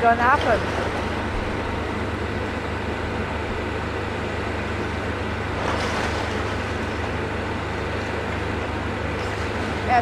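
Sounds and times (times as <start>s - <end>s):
low engine rumble: 0.0s - 10.0s.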